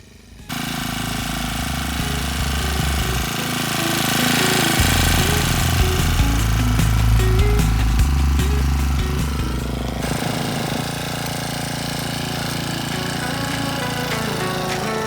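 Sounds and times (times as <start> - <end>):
brush cutter engine running fast: 0.0 - 15.0.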